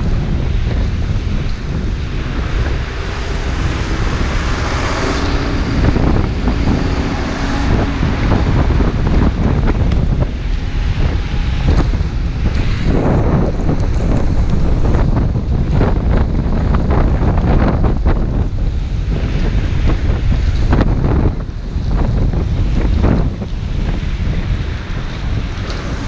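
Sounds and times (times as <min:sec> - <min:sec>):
lorry engine hum: 0:00.0 - 0:26.0
wind buffeting microphone: 0:00.0 - 0:26.0.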